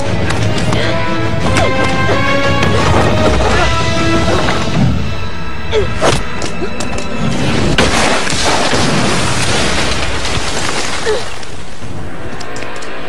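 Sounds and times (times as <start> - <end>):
action film music score: 0.0 - 10.4, 11.2 - 13.0.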